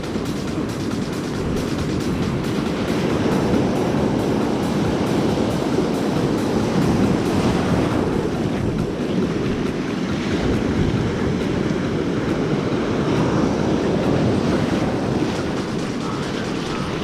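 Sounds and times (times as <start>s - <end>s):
ocean surf rushing: 0.0s - 17.0s
wind rumbling on microphone: 0.0s - 17.0s.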